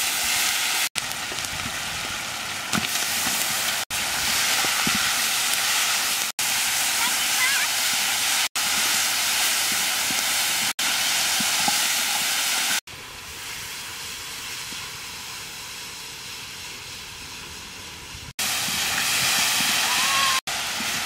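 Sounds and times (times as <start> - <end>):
meat sizzling in a wok: 0.0 - 21.0.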